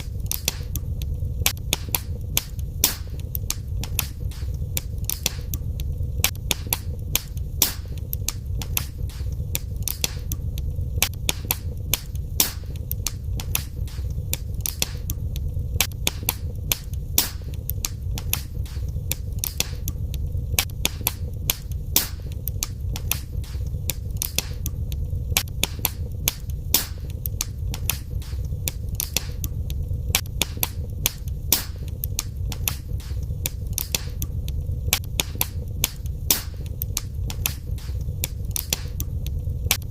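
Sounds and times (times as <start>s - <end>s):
low rumble of burning fire: 0.0s - 39.9s
wood fire crackling: 0.0s - 39.9s.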